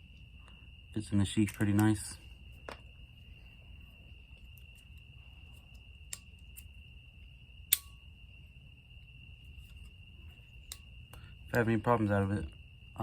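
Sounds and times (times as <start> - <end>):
cricket trill: 0.0 - 13.0.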